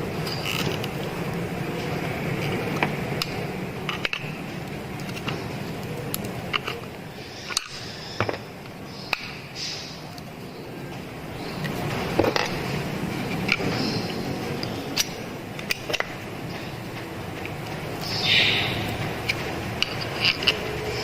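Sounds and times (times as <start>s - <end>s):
tools and metal parts clicking: 0.2s - 9.3s, 11.6s - 21.0s.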